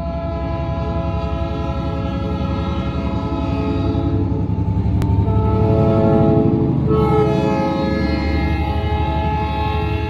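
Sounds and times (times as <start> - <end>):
diesel locomotive engine rumble: 0.0 - 10.0
locomotive horn chord: 0.0 - 10.0.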